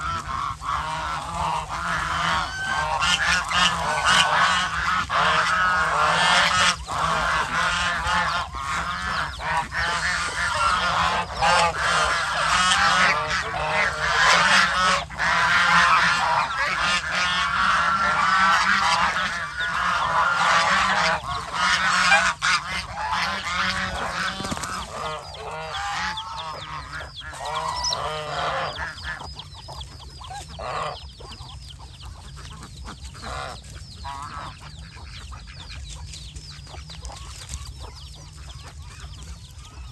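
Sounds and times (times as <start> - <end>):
geese honking: 0.0 - 39.9.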